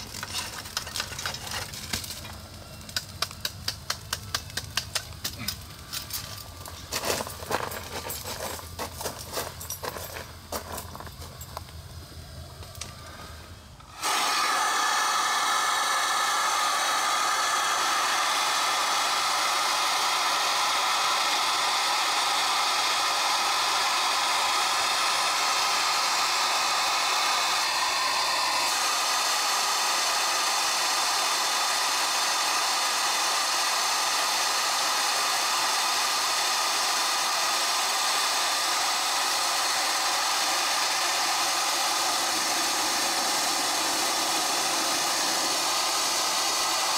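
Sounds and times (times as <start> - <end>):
steam hissing from locomotive: 0.0 - 46.9.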